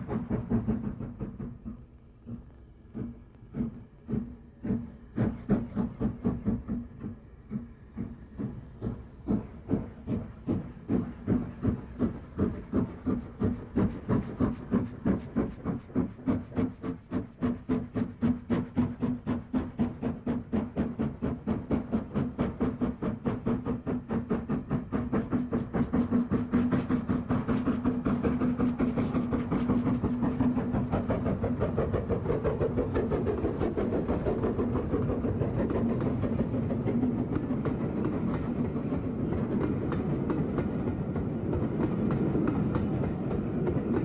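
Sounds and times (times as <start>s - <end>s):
steam locomotive exhaust beats: 0.0s - 44.0s.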